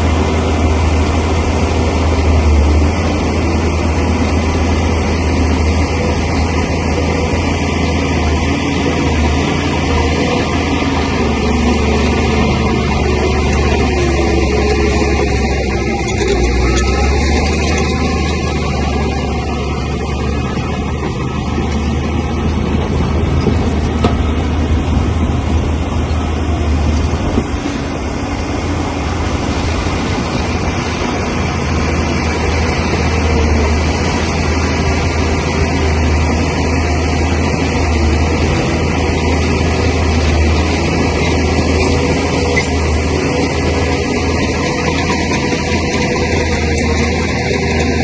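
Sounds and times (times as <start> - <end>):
bulldozer diesel engine droning: 0.0 - 48.0.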